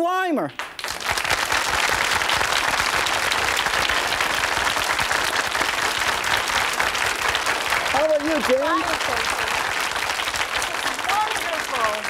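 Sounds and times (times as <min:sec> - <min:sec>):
audience applauding: 0:00.6 - 0:12.0.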